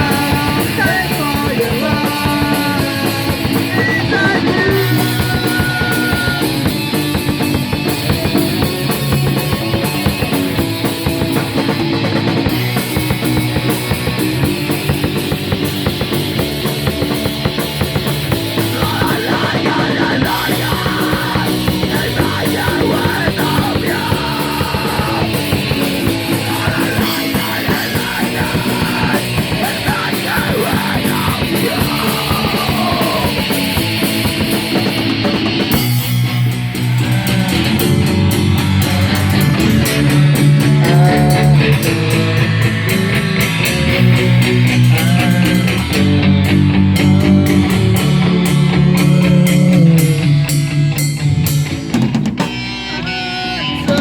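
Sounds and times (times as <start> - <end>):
rock song with electric guitars: 0.0 - 54.0.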